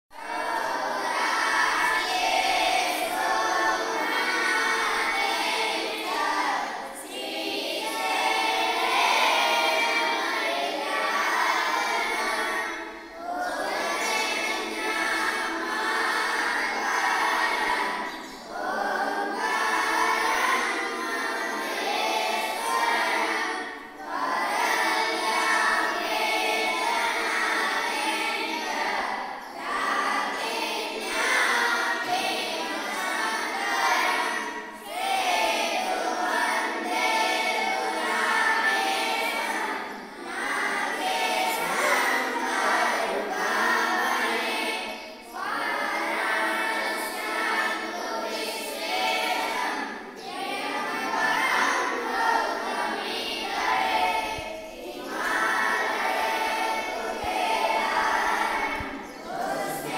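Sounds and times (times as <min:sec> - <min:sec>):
boys singing hymn in unison: 0:00.1 - 0:59.9.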